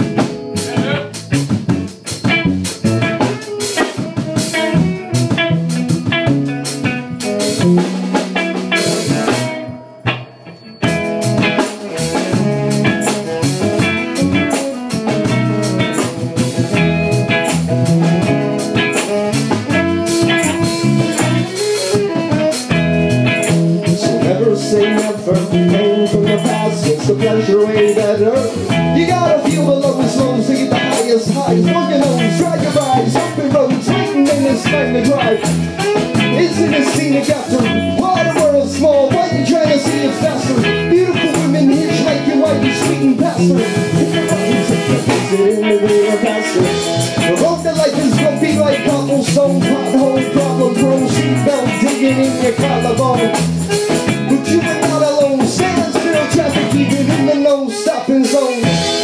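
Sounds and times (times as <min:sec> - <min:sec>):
bluesy guitar: 0:00.0 - 0:59.0
drum kit: 0:00.0 - 0:59.0.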